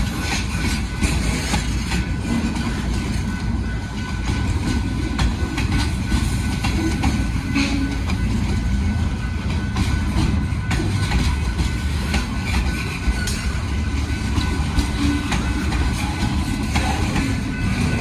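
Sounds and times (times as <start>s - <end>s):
train rumbling on rails: 0.0s - 18.0s
wheels clicking over rail joints: 0.0s - 18.0s.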